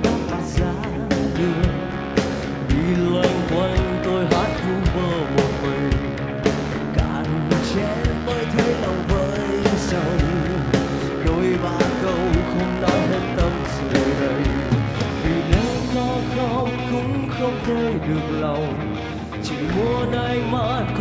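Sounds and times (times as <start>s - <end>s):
steady drum beat: 0.0s - 17.8s
man singing: 0.0s - 21.0s
pop-rock band backing: 0.0s - 21.0s.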